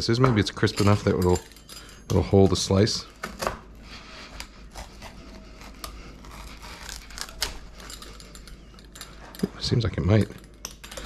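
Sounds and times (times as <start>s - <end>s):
crust crackling: 0.0s - 10.3s.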